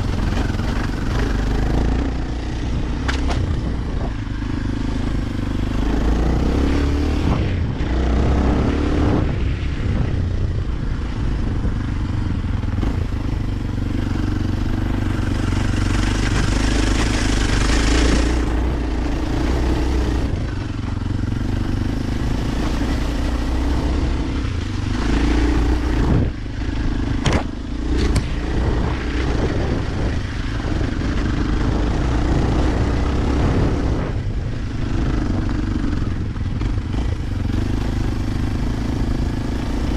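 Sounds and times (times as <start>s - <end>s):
dirt bike engine revving: 0.0s - 10.0s, 12.7s - 39.9s.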